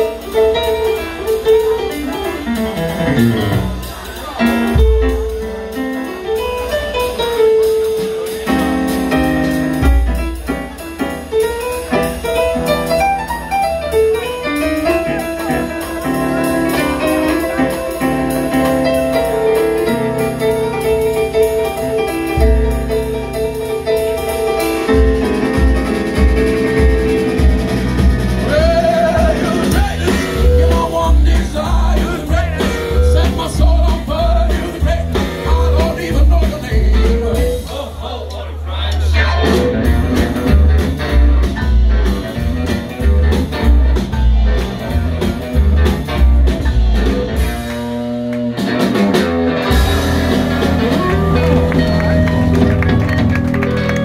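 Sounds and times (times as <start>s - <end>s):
bass and drums beat: 0.0s - 38.0s, 38.8s - 54.0s
live rock and roll band: 0.0s - 54.0s
piano: 0.0s - 54.0s.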